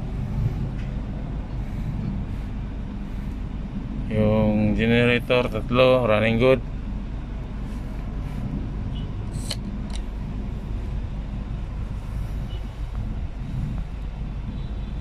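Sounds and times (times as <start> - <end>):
diesel engine and generators idling: 0.0 - 15.0.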